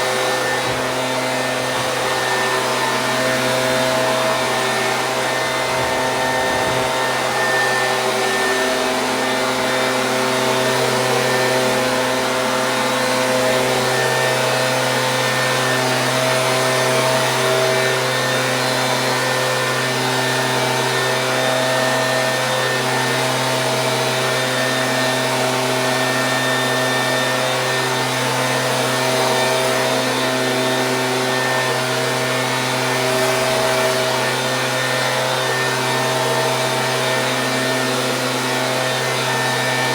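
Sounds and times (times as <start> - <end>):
leaf blower running: 0.0 - 39.9.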